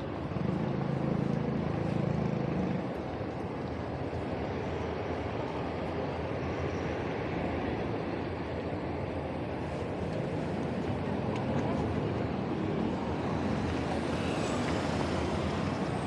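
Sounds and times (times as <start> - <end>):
road noise of passing vehicles: 0.0 - 16.0
vehicle engine humming: 0.0 - 16.0.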